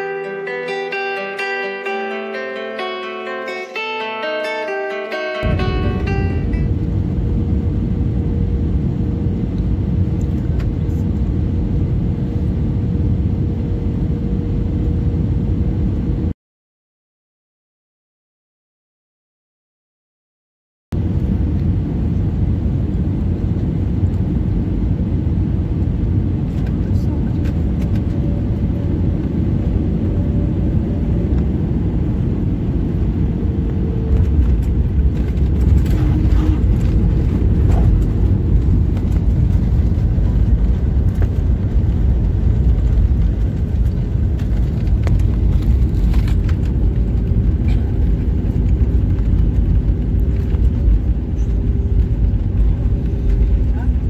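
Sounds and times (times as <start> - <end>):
airflow and engine rumble: 5.4 - 16.4, 20.9 - 54.0.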